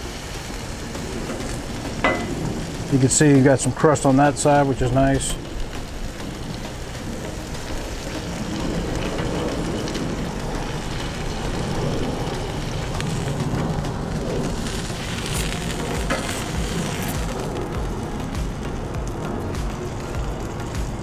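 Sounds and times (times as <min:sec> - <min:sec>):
steak sizzling on griddle: 0:00.0 - 0:21.0.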